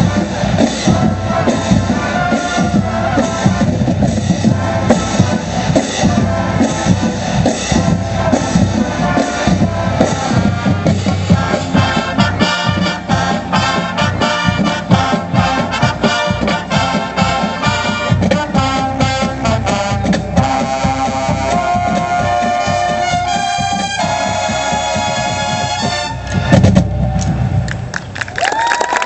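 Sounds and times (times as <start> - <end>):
marching band playing: 0.0 - 28.3.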